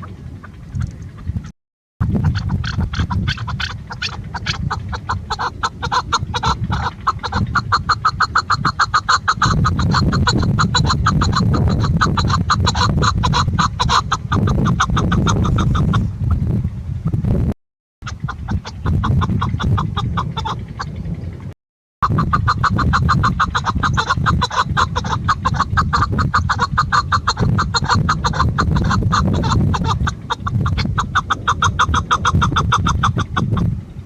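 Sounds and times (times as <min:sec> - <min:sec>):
partridge clucking calls: 0:02.1 - 0:16.4, 0:18.0 - 0:21.4, 0:22.0 - 0:33.8.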